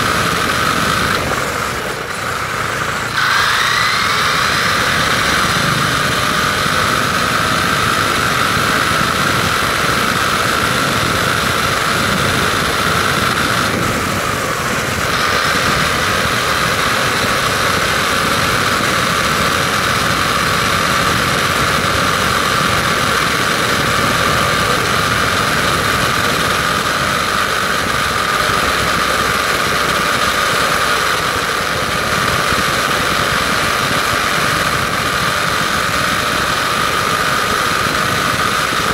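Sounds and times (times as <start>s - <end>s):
electric motor whining: 0.0s - 38.9s
tyres hissing on asphalt: 0.0s - 38.9s.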